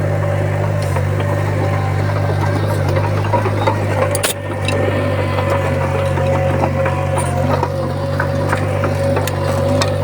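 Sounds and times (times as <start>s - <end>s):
bulldozer diesel engine running: 0.0s - 10.0s
faint clicks and clanks: 0.3s - 10.0s.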